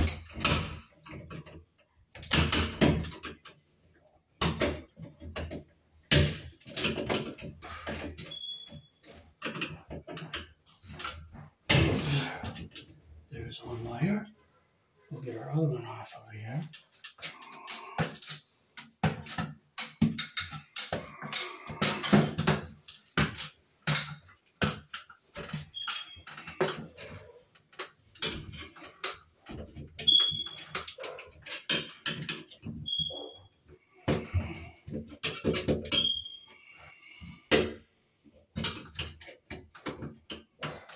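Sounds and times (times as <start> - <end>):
clicks and rattles of wires: 0.0 - 13.3, 16.6 - 40.9.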